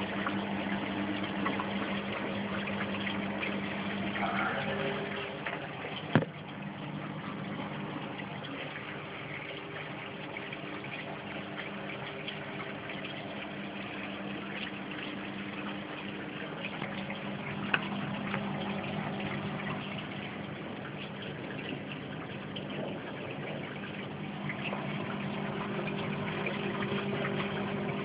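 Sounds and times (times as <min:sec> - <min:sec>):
aquarium pumps humming: 0:00.0 - 0:28.0
water circulating and splashing: 0:00.0 - 0:28.0.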